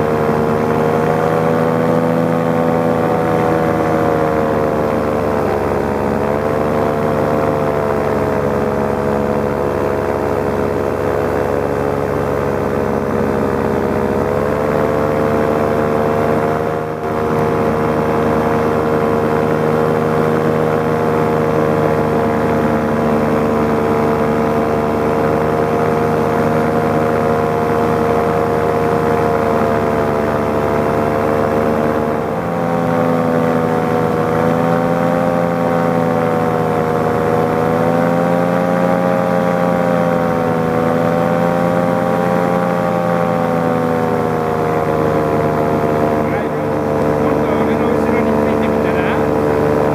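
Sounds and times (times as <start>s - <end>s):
paramotor engine and propeller: 0.0s - 49.9s.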